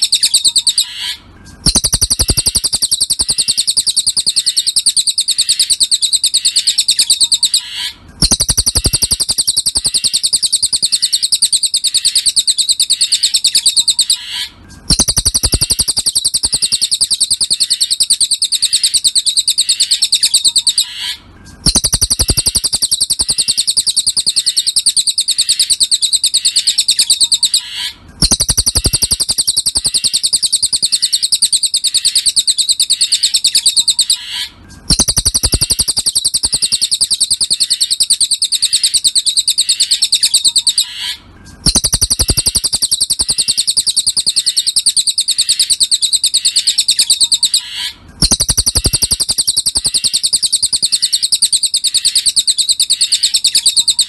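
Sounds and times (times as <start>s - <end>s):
bird high-pitched trill: 0.0s - 54.0s.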